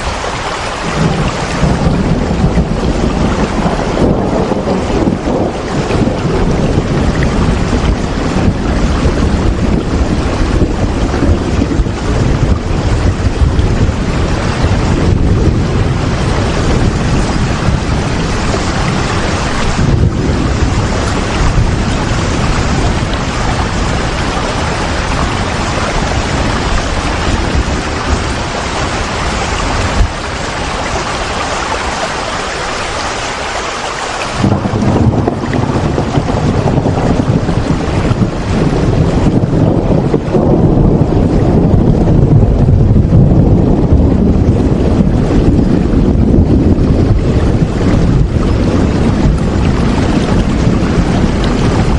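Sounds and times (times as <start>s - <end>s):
heavy rain hiss: 0.0s - 41.6s
low rumble: 0.8s - 31.2s, 34.4s - 51.9s.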